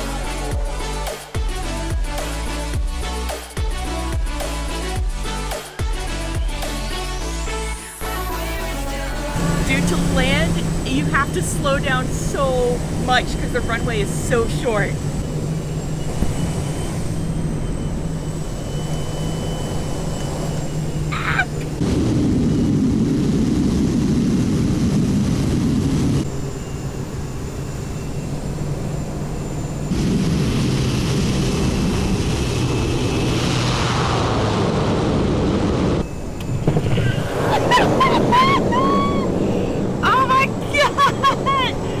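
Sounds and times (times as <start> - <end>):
turboprop engine and propeller: 0.0 - 42.0.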